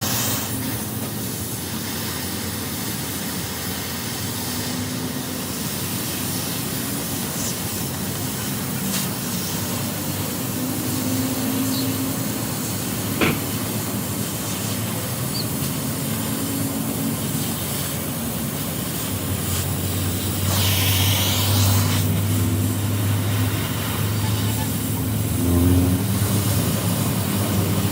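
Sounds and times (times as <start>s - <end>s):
roadside vehicle noise: 0.0s - 27.9s.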